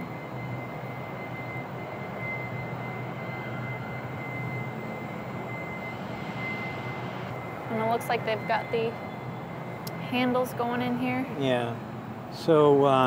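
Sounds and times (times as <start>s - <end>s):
low hum: 0.0s - 12.9s
faint high whine: 0.0s - 13.0s
ventilation and machinery rush: 0.0s - 13.0s.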